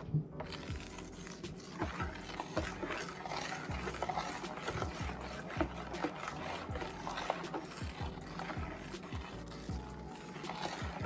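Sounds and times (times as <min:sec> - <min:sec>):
juice sloshing: 0:00.4 - 0:11.0
ladle clicking on metal bowl: 0:01.5 - 0:11.0.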